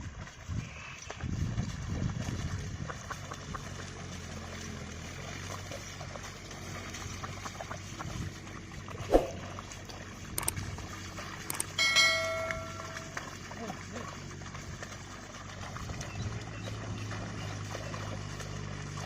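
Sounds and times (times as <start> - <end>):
water sloshing and splashing: 0.0 - 19.0.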